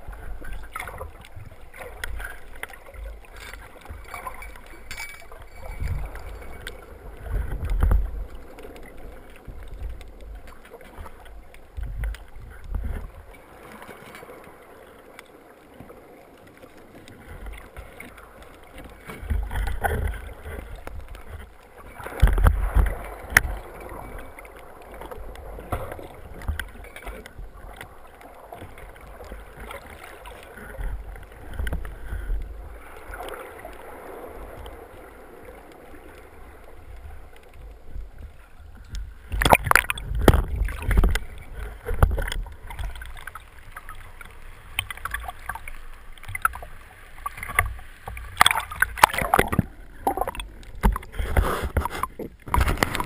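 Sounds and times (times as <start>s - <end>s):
muffled underwater rumble: 0.0s - 13.8s, 16.6s - 53.0s
sea water sloshing: 0.0s - 53.0s
water splashes: 0.0s - 53.0s.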